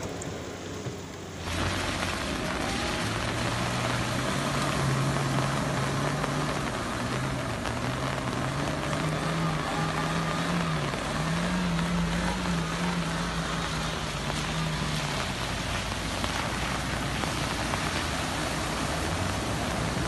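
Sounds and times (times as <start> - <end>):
engine humming: 0.0 - 20.0
tyres splashing through water: 0.0 - 20.0.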